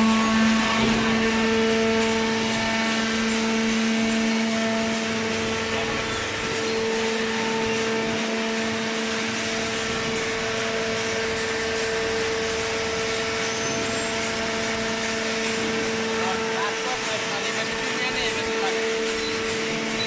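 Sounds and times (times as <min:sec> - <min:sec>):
hydraulic pump motor hum: 0:00.0 - 0:20.0.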